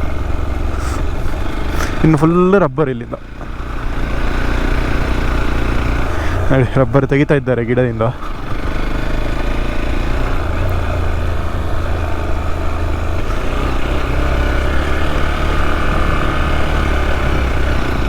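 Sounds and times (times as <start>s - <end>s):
motorcycle engine rumbling: 0.0s - 18.0s
road and wind noise: 0.0s - 18.0s.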